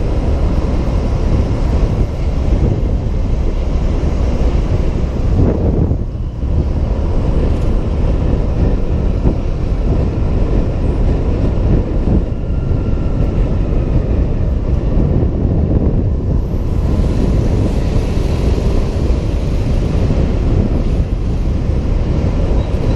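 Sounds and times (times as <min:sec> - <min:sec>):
wind and road rush: 0:00.0 - 0:22.9.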